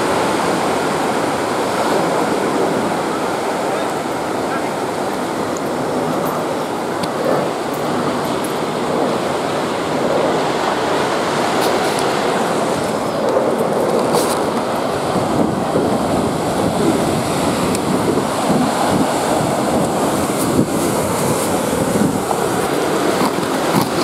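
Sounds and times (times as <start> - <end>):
ocean surf breaking: 0.0 - 24.0
wind on microphone: 0.0 - 24.0.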